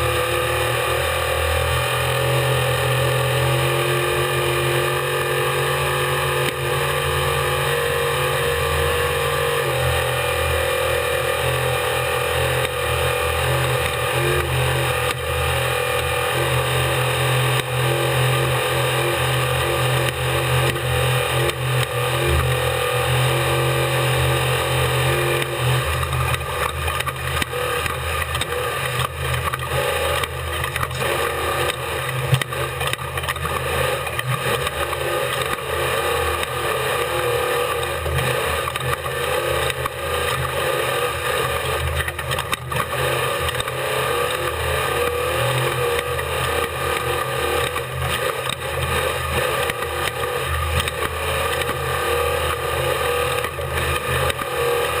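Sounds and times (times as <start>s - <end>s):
race engine at speed: 0.0s - 55.0s.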